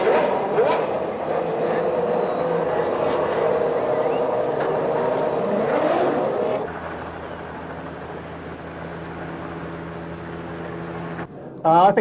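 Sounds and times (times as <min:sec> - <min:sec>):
race car engines at high revs: 0:00.0 - 0:11.3.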